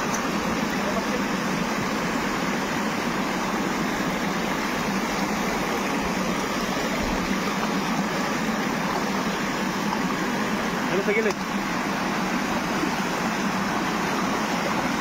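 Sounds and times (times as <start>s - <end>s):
water spilling over a weir: 0.0s - 15.0s.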